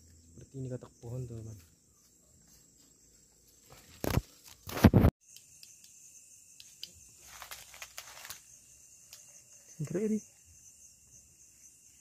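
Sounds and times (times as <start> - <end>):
insects trilling: 0.0 - 12.0
low steady insect tone: 0.0 - 12.0.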